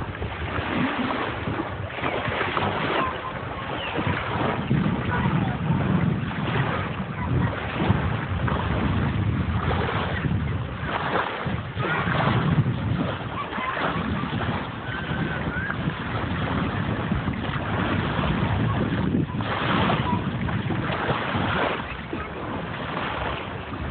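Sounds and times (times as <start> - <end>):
small waves washing on shore: 0.0 - 23.9
wind blowing across microphone: 0.0 - 23.9.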